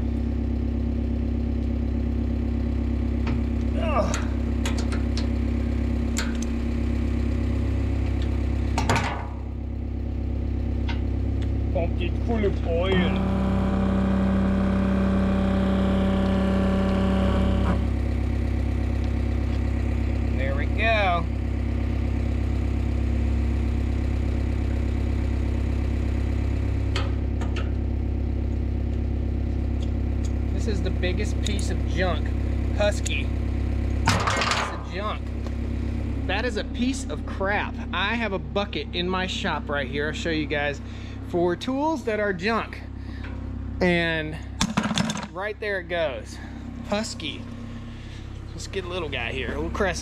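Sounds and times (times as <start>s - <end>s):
skid steer engine idling: 0.0s - 50.0s.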